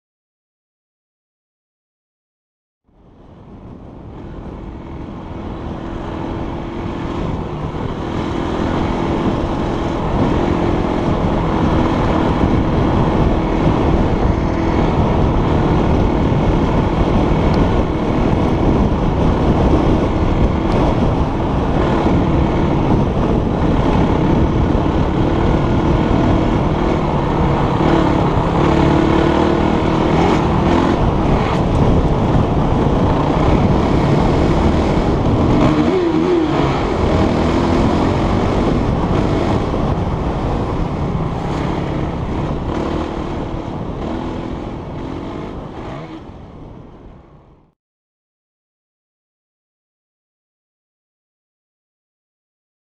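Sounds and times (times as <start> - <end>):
dirt bike engine running: 3.6 - 46.8.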